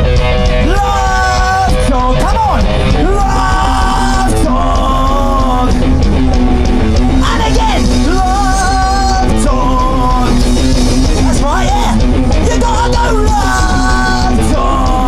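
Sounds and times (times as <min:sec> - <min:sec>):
bass guitar: 0:00.0 - 0:15.0
drum kit: 0:00.0 - 0:15.0
electric guitar: 0:00.0 - 0:15.0
person singing: 0:00.6 - 0:05.9, 0:07.1 - 0:10.5, 0:11.2 - 0:15.0.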